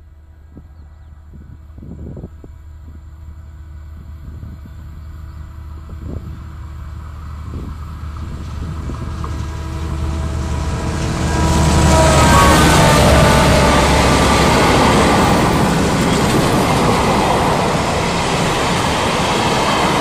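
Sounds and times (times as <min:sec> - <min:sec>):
diesel locomotive engine hum: 0:00.0 - 0:20.0
wheels rushing on rails: 0:01.7 - 0:20.0.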